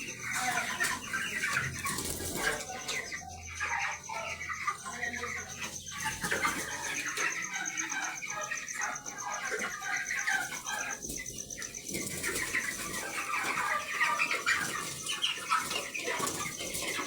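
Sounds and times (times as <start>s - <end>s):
chickens chirping and peeping: 0.0s - 17.0s.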